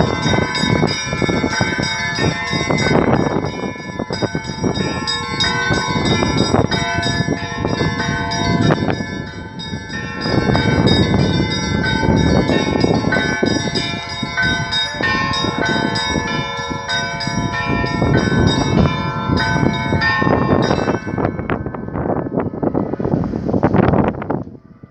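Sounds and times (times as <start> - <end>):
church bells ringing: 0.0 - 23.6.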